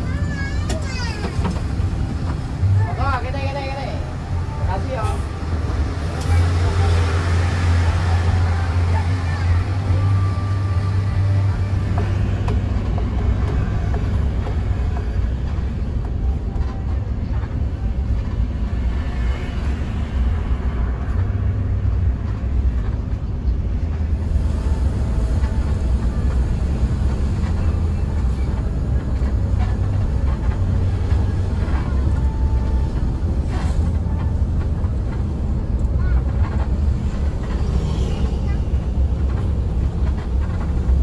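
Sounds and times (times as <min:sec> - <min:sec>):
bus engine rumble: 0:00.0 - 0:41.0
road noise: 0:00.0 - 0:41.0.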